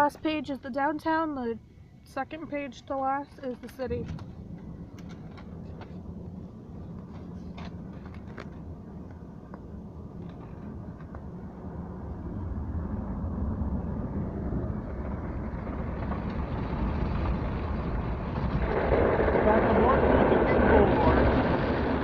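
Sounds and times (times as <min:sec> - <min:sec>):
car road and engine rumble: 0:02.1 - 0:22.0.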